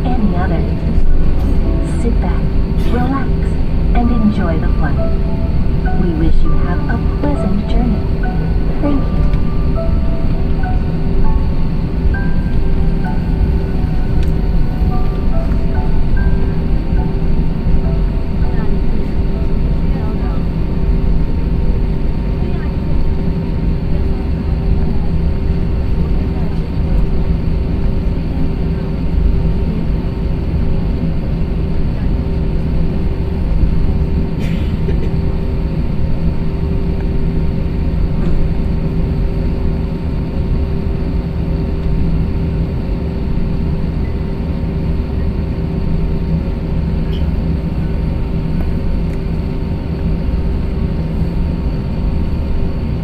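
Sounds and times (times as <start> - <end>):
aircraft cabin engine noise: 0.0 - 53.0.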